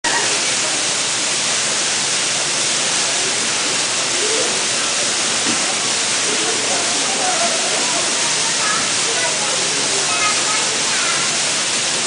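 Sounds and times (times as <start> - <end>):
water rushing in pool: 0.0 - 12.0.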